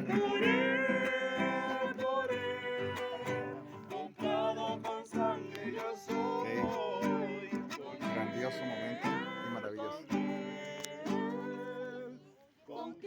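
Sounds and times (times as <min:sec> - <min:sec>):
acoustic guitar strumming: 0:00.0 - 0:12.1
small choir singing: 0:00.0 - 0:13.0.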